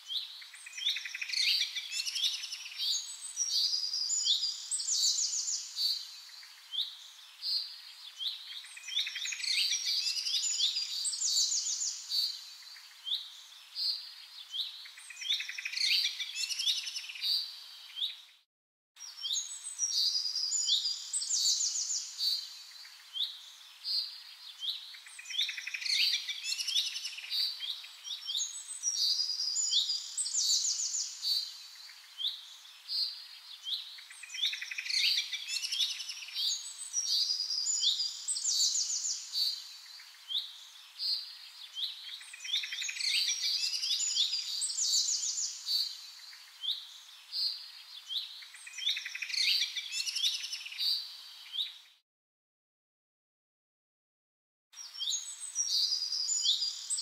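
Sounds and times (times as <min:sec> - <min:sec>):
songbirds chirping and trilling: 0:00.0 - 0:18.4, 0:19.0 - 0:52.0, 0:54.8 - 0:57.0.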